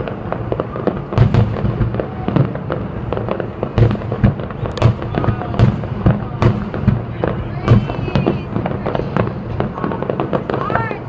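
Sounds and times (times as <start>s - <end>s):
fireworks bangs and cracks: 0.0s - 11.0s
low rumble of distant booms: 0.1s - 10.6s.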